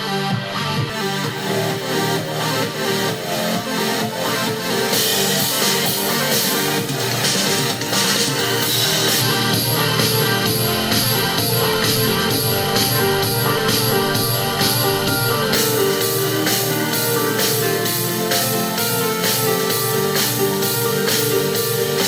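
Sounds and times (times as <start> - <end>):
rock song on speaker: 0.0 - 22.0.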